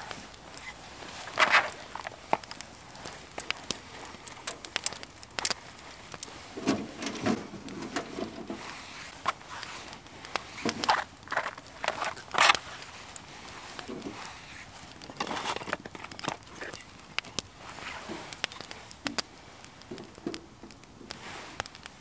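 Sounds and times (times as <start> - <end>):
rustling of twigs and wood: 0.0 - 22.0
wood fire crackling: 0.0 - 22.0.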